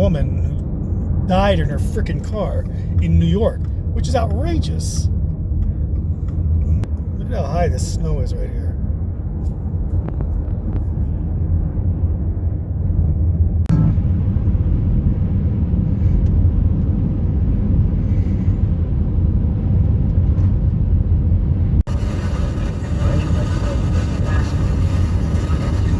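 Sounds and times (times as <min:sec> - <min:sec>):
car cabin road rumble: 0:00.0 - 0:25.9.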